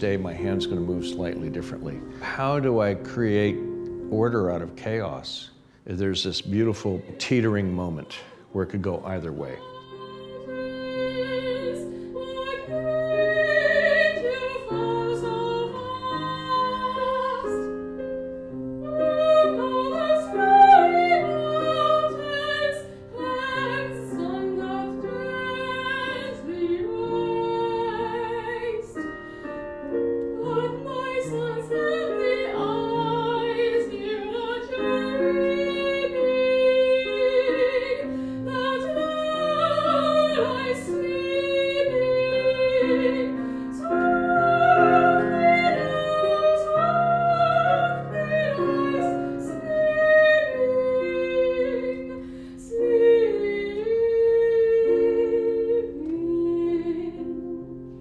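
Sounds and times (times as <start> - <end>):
operatic soprano singing: 0.0 - 58.0
piano accompaniment: 0.0 - 58.0.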